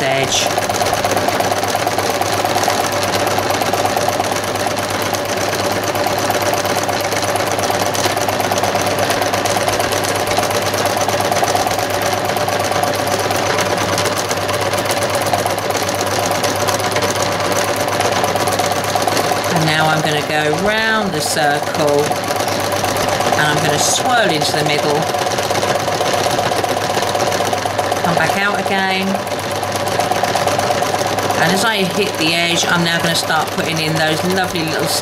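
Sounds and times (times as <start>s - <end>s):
sewing machine running: 0.0s - 35.0s.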